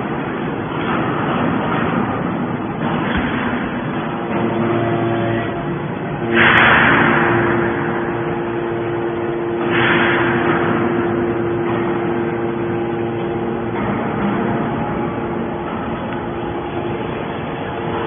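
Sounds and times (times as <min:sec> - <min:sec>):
hydraulic unit humming: 0:00.0 - 0:18.0
harsh noise bursts: 0:02.8 - 0:18.0.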